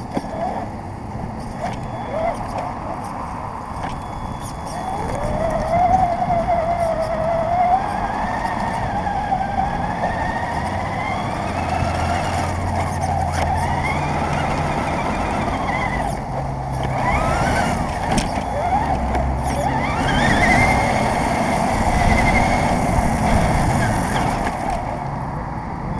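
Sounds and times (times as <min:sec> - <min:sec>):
toy car motor whining: 0:00.0 - 0:25.0
tyre and road noise: 0:00.0 - 0:25.9.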